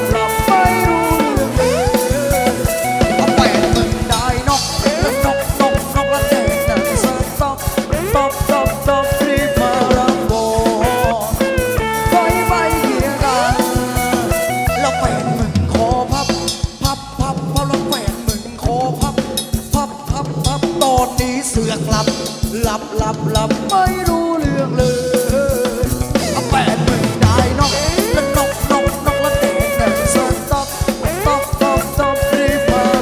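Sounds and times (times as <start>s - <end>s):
dance band music: 0.0s - 33.0s
drum kit beat: 0.0s - 33.0s.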